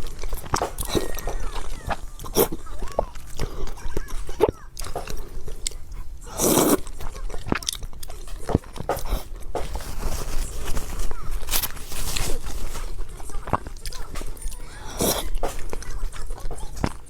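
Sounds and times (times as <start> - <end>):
person biting and chewing: 0.0 - 17.0.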